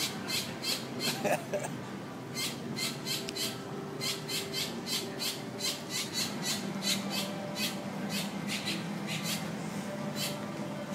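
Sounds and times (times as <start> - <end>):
birds squawking: 0.0 - 1.4, 2.3 - 10.5.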